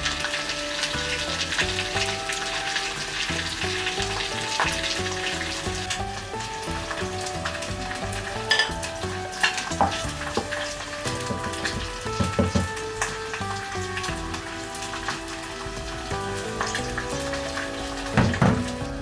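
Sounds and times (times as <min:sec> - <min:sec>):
food sizzling in a pan: 0:00.0 - 0:19.0
soft music: 0:00.0 - 0:19.0.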